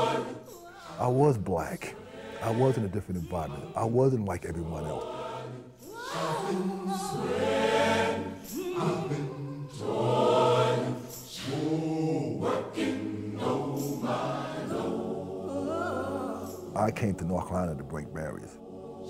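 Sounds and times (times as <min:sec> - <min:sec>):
choir singing long notes: 0:00.0 - 0:19.0.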